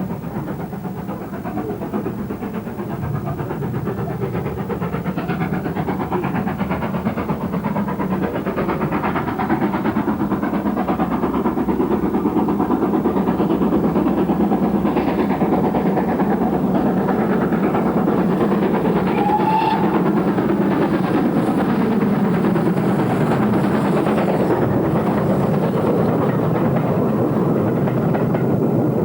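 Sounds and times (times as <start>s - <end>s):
steam hiss: 0.0s - 29.0s
steam locomotive exhaust beating: 0.0s - 29.0s.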